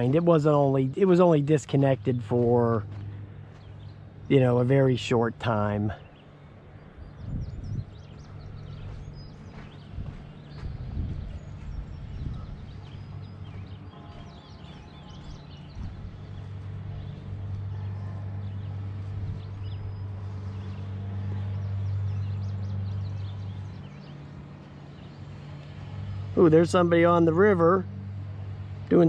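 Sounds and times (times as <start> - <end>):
low motor-like hum: 0.0 - 29.0
small birds chirping: 0.0 - 29.0.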